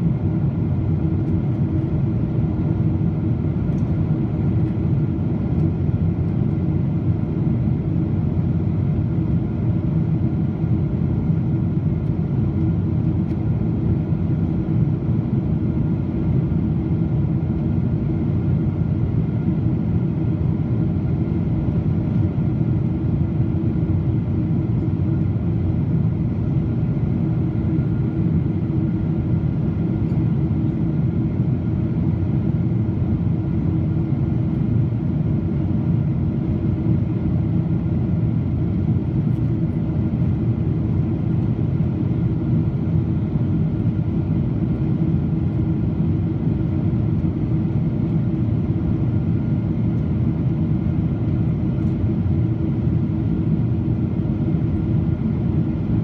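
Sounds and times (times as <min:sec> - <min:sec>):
jet engine drone: 0:00.0 - 0:56.0.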